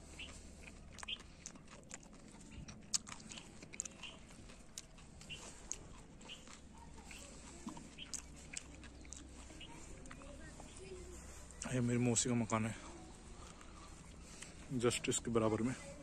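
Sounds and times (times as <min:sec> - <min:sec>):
crunching footsteps on concrete: 0:00.0 - 0:15.8
faint low hum: 0:00.0 - 0:16.0.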